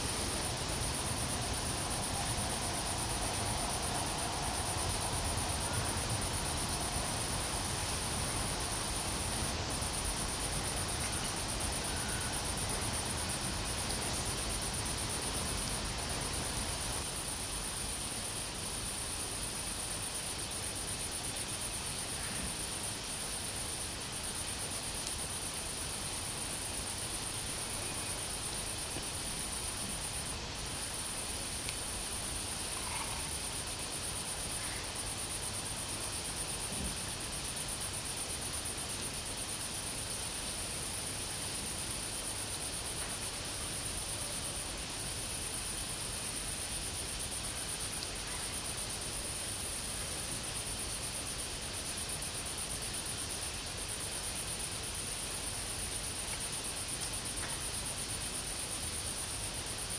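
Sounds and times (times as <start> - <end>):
crickets chirring: 0.0 - 59.9
faint even hiss: 0.0 - 59.9.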